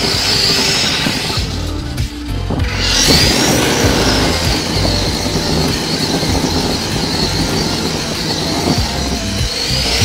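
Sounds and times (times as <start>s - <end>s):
electric motor and gearbox whining: 0.0s - 10.0s.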